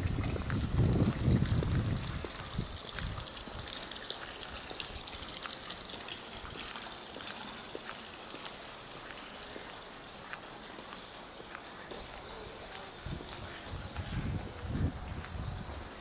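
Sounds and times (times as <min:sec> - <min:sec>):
running water trickling: 0:00.0 - 0:16.0.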